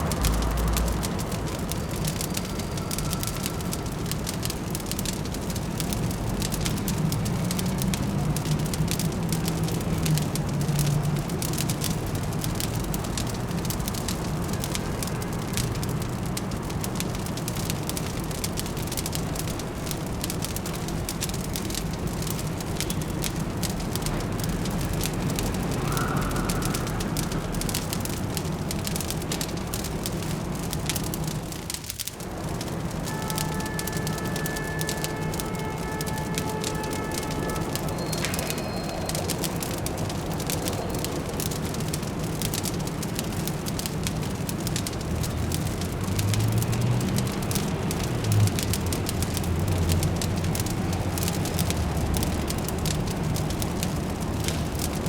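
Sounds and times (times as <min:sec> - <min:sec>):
fireplace crackling: 0:00.0 - 0:55.0
low city hum: 0:00.0 - 0:55.0.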